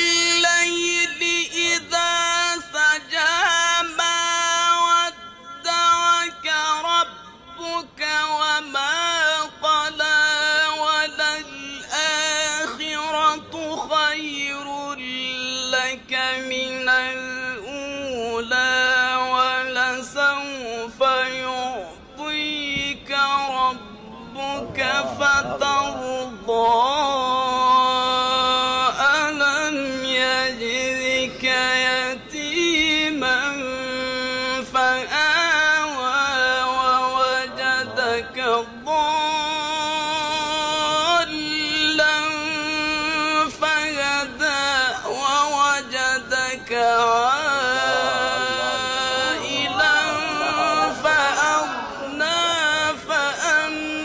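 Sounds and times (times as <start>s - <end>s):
man reciting melodically: 0.0s - 54.0s.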